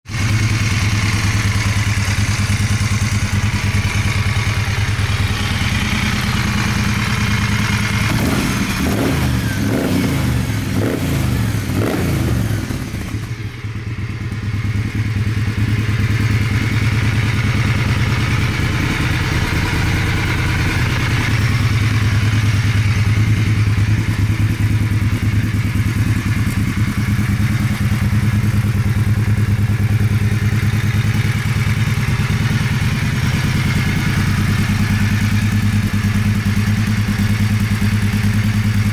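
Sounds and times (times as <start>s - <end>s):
motorcycle engine idling: 0.1s - 38.9s
engine revving: 2.8s - 13.4s, 15.9s - 38.9s.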